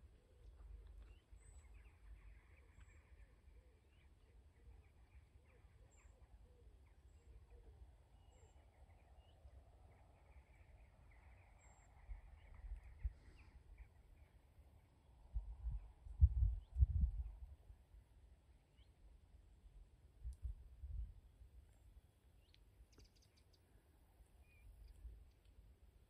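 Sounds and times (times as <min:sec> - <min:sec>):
willow warbler song: 0:00.0 - 0:26.0.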